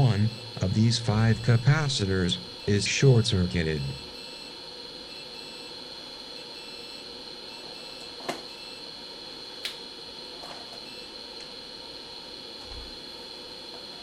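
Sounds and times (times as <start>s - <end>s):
high-pitched electrical whine: 0.0s - 14.0s
low background hum: 0.0s - 14.0s.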